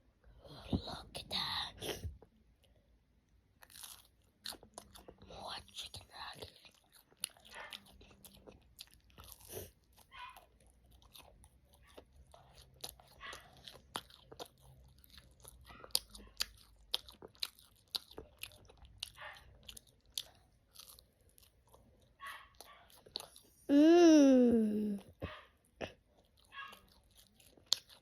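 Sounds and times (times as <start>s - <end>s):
person chewing crunchy food: 3.6s - 23.6s, 25.3s - 28.0s.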